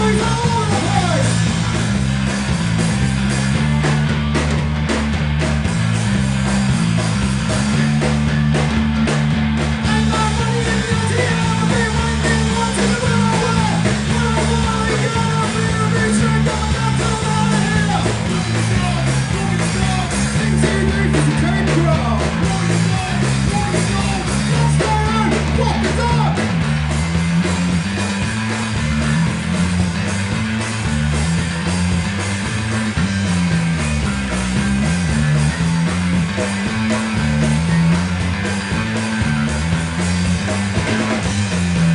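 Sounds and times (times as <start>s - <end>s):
rock band playing live: 0.0s - 41.9s.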